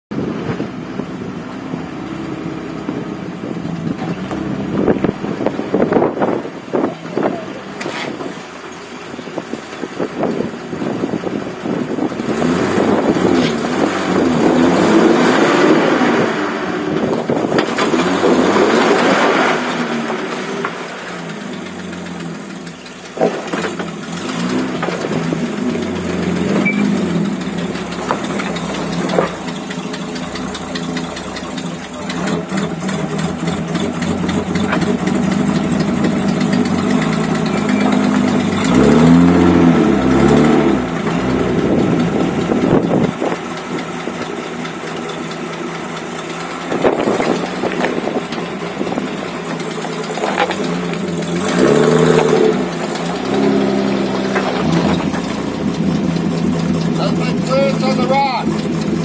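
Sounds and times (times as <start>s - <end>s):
engine running at low revs: 0.1s - 59.0s.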